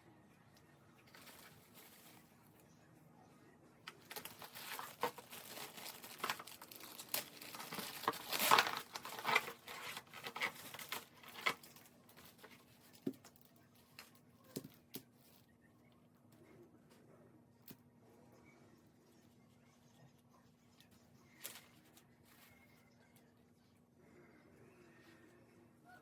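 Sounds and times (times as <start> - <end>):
crinkling and rustling: 0.5 - 2.8, 3.8 - 23.9.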